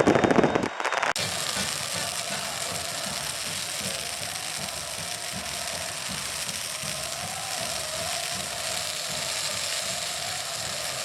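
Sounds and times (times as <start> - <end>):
crowd noise hiss: 0.0 - 11.0.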